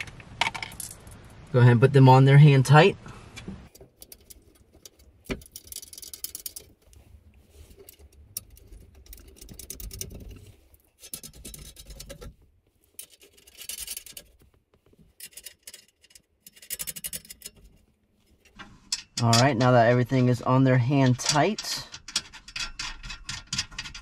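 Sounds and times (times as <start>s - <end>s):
nuts and washers scratching clicking: 3.7s - 24.0s.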